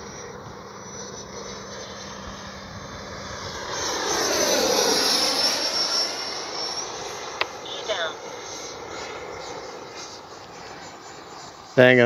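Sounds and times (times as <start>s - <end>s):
model jet fan whining: 0.0s - 12.0s.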